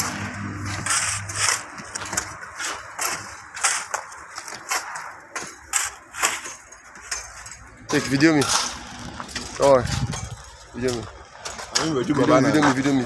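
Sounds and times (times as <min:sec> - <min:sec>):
shovels striking and scraping soil: 0:00.0 - 0:13.0.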